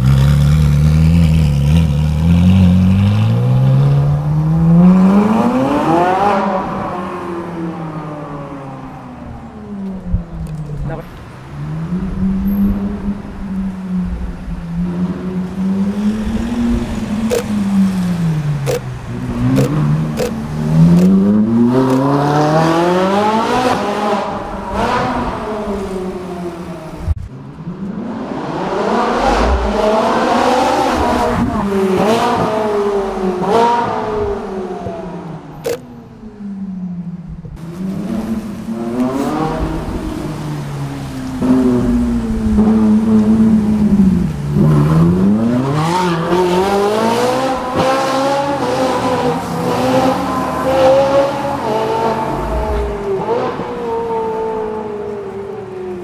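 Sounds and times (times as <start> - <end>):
sports car engine revving: 0.0 - 8.8, 11.6 - 55.5.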